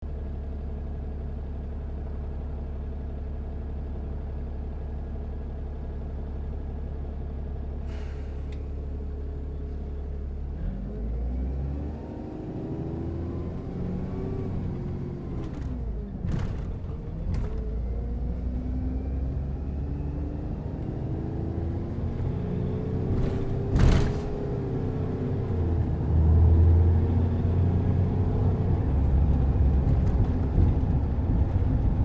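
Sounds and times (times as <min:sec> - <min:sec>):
bus engine idling and revving: 0:00.0 - 0:32.0.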